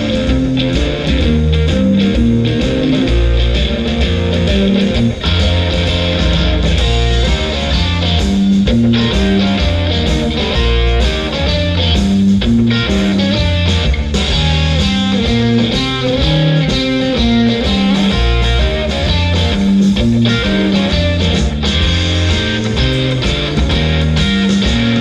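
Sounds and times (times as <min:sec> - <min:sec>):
electric guitar: 0:00.0 - 0:25.0
heavy bass line: 0:00.0 - 0:25.0.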